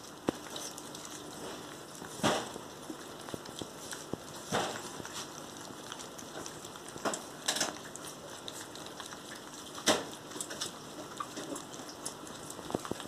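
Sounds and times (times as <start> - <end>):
puppies chewing and smacking: 0.0 - 13.0.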